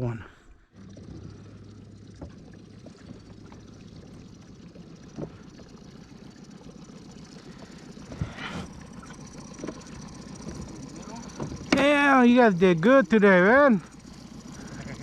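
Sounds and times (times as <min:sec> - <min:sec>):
small boat motor running: 0:00.0 - 0:15.0.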